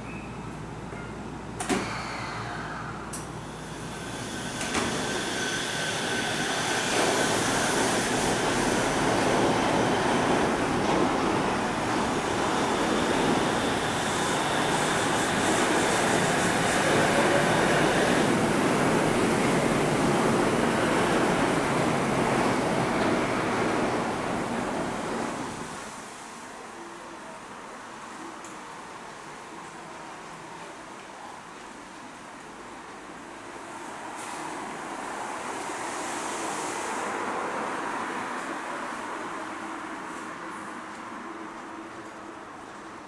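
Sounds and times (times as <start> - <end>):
monorail train passing: 0.3 - 43.0.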